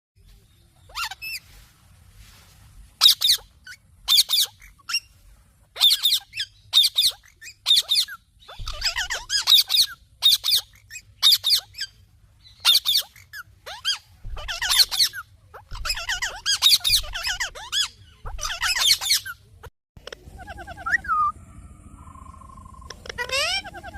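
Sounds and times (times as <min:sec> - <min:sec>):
parrot chirping: 0:00.8 - 0:01.4, 0:03.0 - 0:05.2, 0:05.8 - 0:19.4, 0:20.0 - 0:23.9.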